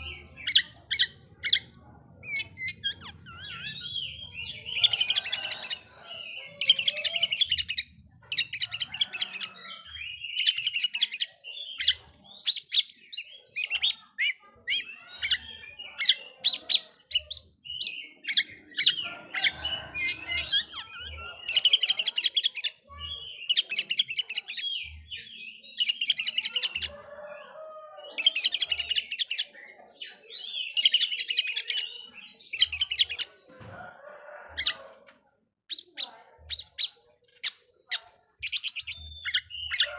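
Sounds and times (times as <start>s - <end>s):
bird singing rasping phrases: 0.0s - 39.9s.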